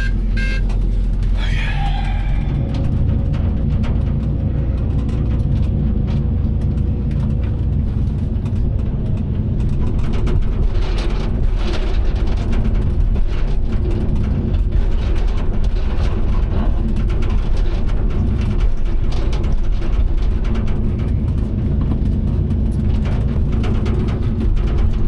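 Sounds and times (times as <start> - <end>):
excavator diesel engine running: 0.0 - 25.0
clattering and cracking: 0.6 - 25.0.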